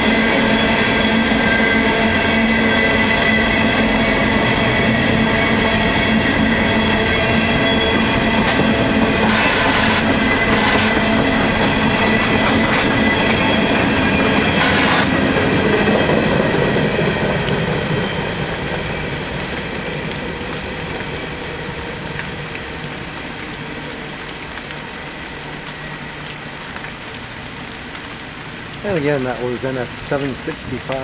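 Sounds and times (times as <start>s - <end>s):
freight train rolling past: 0.0s - 26.5s.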